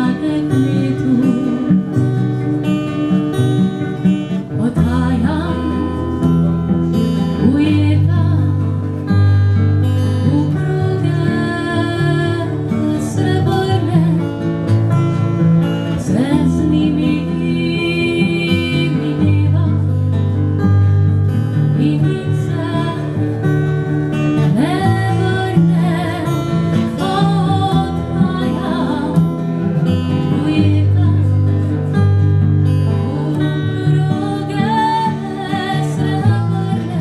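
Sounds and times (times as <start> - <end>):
woman singing: 0.0 - 2.9, 3.6 - 9.3, 9.9 - 15.3, 15.9 - 37.0
strummed acoustic guitar: 0.0 - 37.0.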